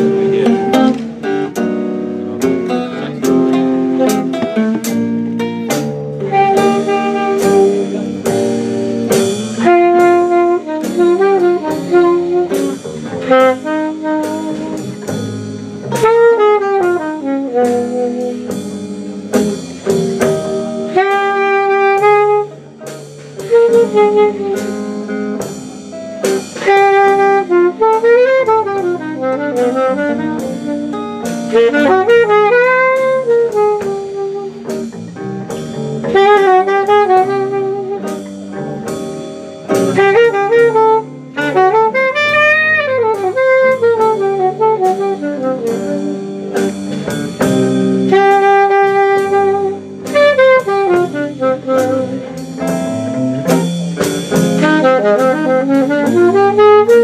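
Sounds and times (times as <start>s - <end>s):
saxophone solo: 0.0s - 5.2s, 6.2s - 57.0s
drum kit: 0.0s - 57.0s
guitar accompaniment: 0.0s - 57.0s.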